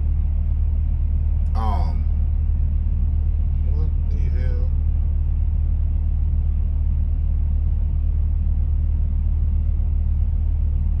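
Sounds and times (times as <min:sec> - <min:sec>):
truck diesel engine drone: 0:00.0 - 0:11.0.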